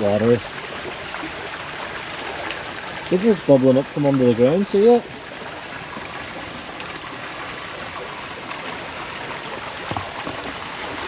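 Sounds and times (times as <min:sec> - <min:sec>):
water flowing over rocks: 0:00.0 - 0:11.0.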